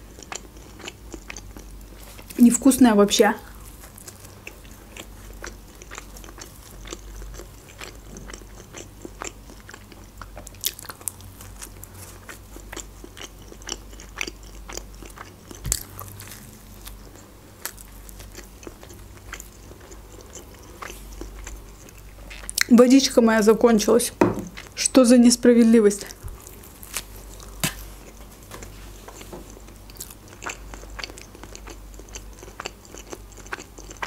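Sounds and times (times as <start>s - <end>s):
chewing and biting pizza: 0.0s - 2.4s, 3.4s - 22.7s, 26.0s - 34.0s
faint low hum: 0.0s - 34.0s.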